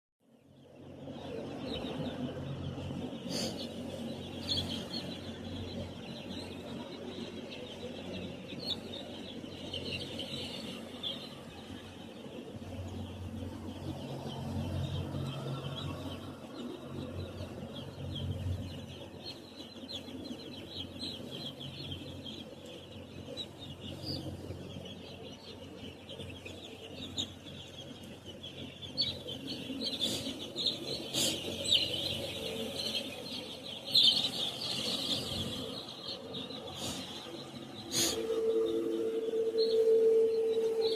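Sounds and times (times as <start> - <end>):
low steady hum: 0.4 - 40.9
chicks peeping: 0.6 - 40.9.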